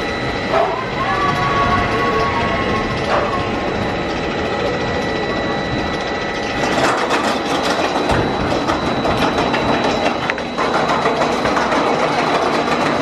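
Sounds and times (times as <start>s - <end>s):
roller coaster train on track: 0.0s - 13.0s.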